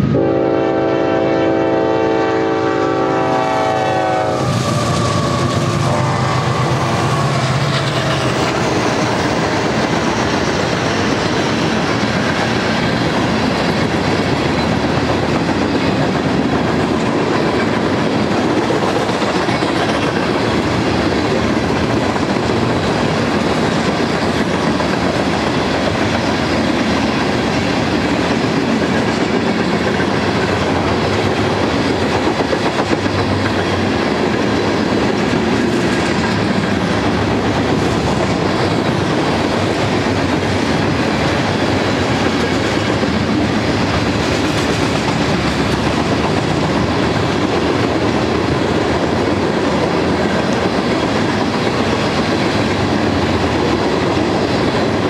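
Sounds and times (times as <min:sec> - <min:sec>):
freight cars rumbling over rails: 0:00.0 - 0:55.0.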